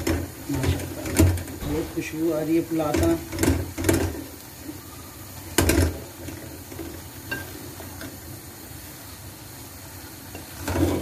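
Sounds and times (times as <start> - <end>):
low sizzle: 0.0 - 11.0.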